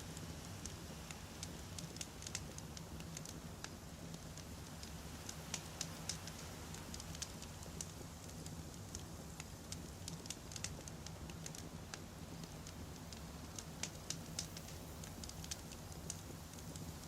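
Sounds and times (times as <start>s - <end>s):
campfire crackling and popping: 0.0s - 17.0s
low steady fire rumble: 0.0s - 17.0s.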